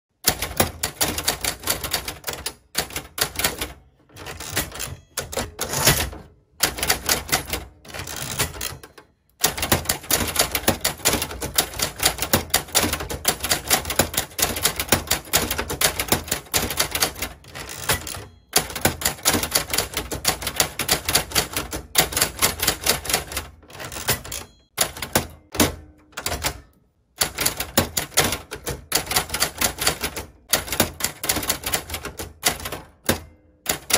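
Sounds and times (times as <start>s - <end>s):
typewriter key strikes: 0.2s - 33.9s.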